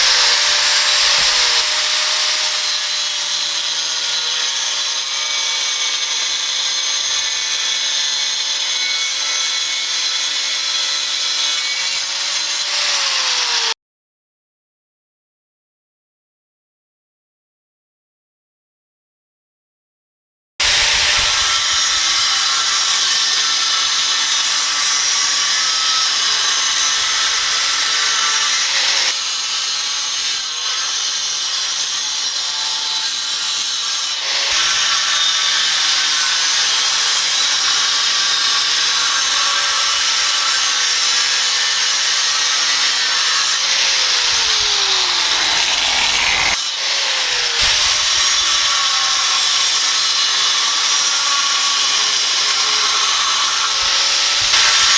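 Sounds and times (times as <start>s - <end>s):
angle grinder cutting: 0.0s - 13.8s, 20.6s - 54.9s.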